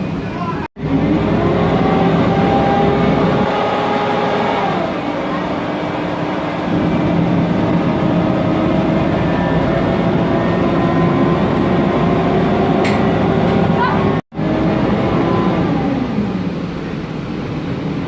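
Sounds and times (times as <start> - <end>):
bus engine: 0.0 - 18.0
cooling fan noise: 0.0 - 18.0
gearbox whine: 0.8 - 17.0.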